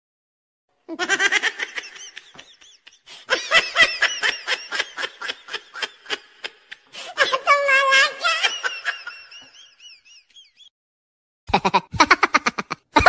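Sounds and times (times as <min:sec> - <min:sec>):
high-pitched giggling laughter: 0:00.9 - 0:10.5, 0:11.5 - 0:13.0.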